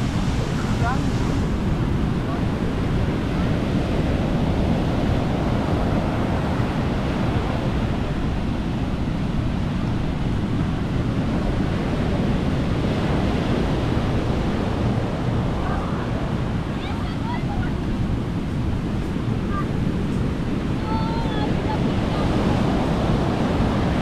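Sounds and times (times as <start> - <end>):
sea waves washing onto beach: 0.0 - 24.0
wind rumbling on microphone: 0.0 - 24.0.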